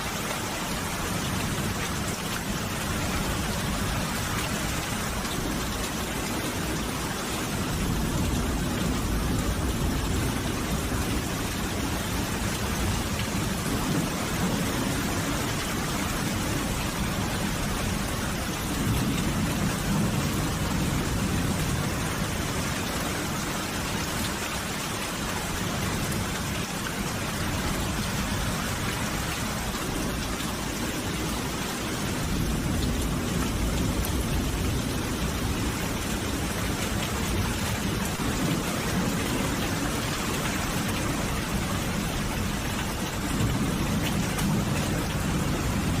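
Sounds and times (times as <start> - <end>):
heavy rain hissing and pattering: 0.0 - 46.0.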